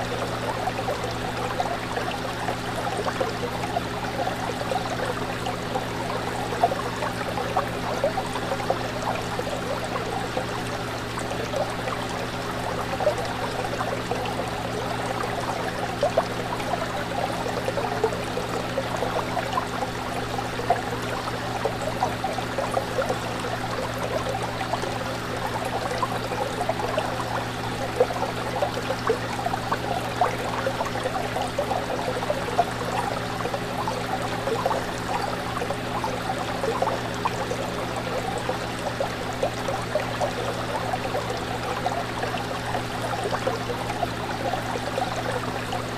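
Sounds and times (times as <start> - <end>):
fish tank water bubbling: 0.0 - 45.9.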